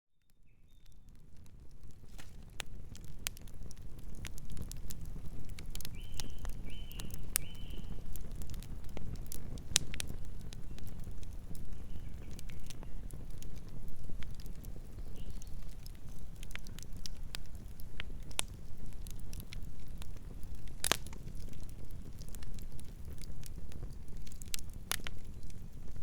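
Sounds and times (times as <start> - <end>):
campfire crackling: 0.2 - 26.0.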